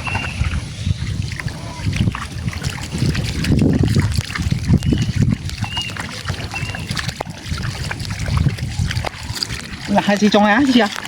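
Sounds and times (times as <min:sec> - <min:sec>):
water sloshing and splashing: 0:00.0 - 0:11.0
knocks in water: 0:01.2 - 0:11.0.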